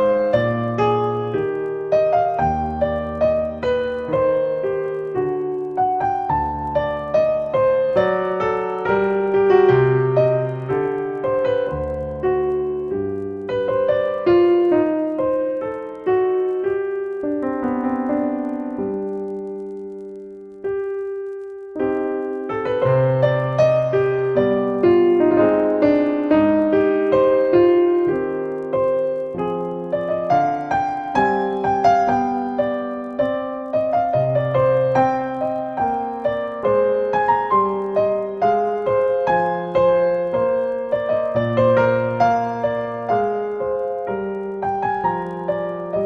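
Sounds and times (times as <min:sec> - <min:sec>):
solo piano melody: 0:00.0 - 0:46.0.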